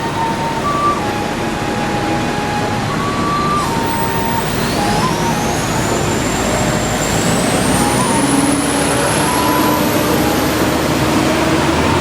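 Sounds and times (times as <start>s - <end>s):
high whine rising in pitch: 0.0s - 12.0s
train carriage rumble: 0.0s - 12.0s.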